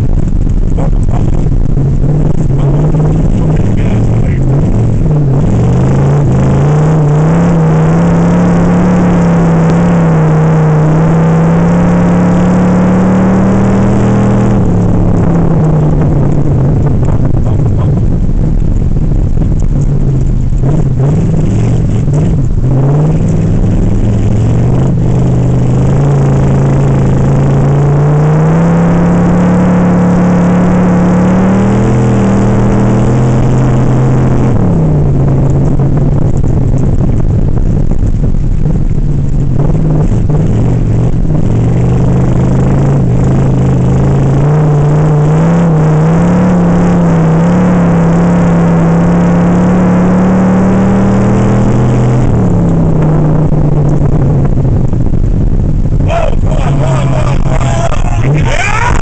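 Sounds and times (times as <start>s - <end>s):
car engine revving under load: 0.0s - 59.0s.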